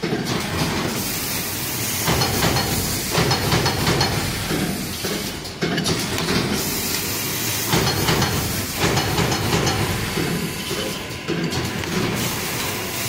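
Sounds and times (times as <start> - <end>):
card punching machine clatter: 2.0 - 12.8.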